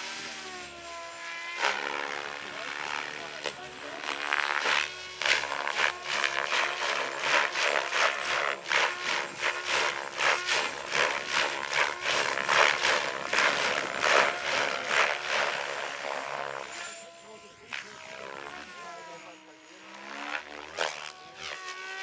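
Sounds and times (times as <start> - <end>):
helicopter rotor whooshing: 0.0 - 22.0
motor and rotor hum: 0.0 - 22.0.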